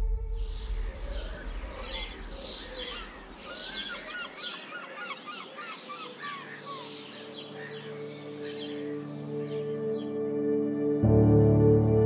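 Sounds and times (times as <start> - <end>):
soft ambient music: 0.0 - 12.0
birds chirping and singing: 0.2 - 10.4.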